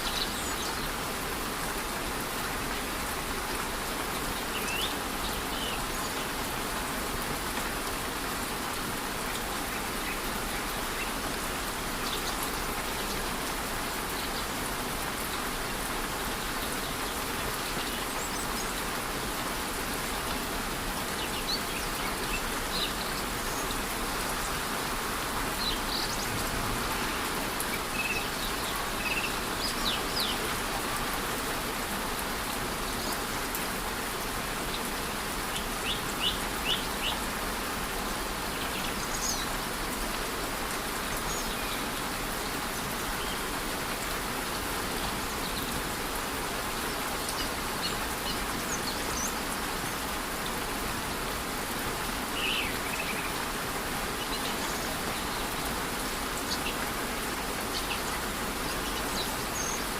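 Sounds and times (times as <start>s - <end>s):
light rain: 0.0s - 59.9s
waterfall rushing: 0.0s - 59.9s.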